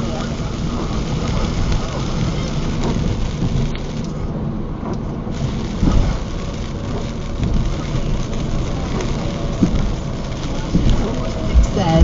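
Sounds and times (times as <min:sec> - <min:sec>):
rain: 0:00.0 - 0:12.0
storm wind: 0:00.0 - 0:12.0.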